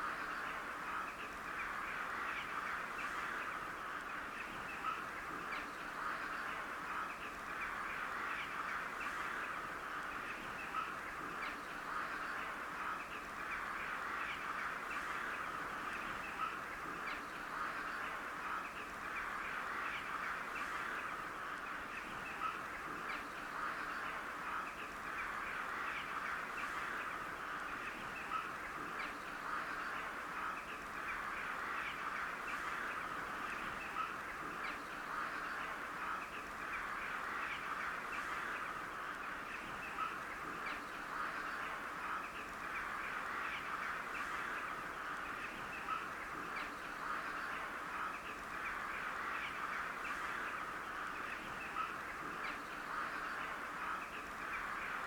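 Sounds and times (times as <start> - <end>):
flock of crows calling: 0.0 - 55.0.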